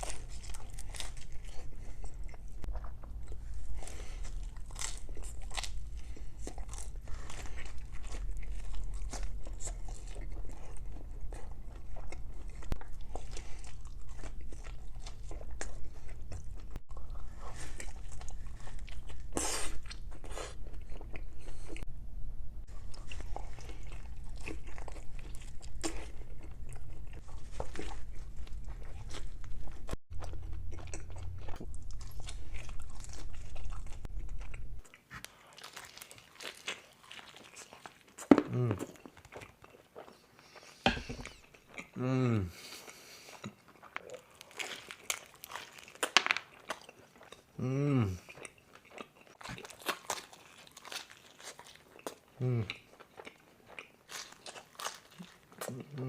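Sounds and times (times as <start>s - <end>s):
chewing: 0.0s - 21.8s, 22.8s - 56.0s.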